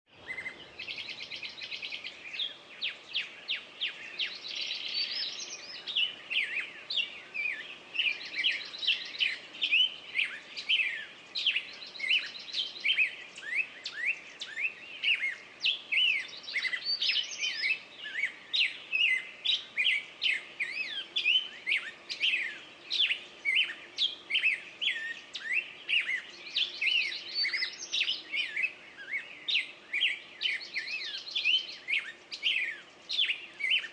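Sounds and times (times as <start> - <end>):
songbirds singing: 0.1 - 33.9.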